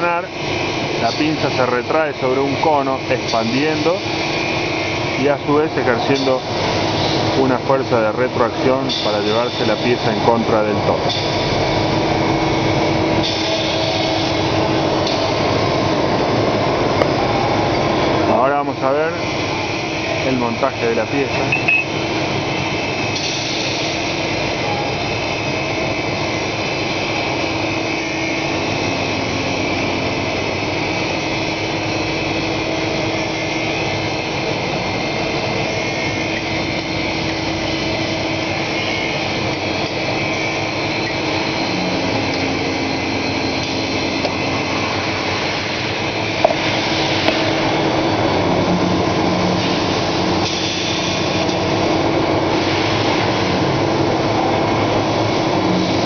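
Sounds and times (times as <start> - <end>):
shop machinery hum: 0.0 - 56.0.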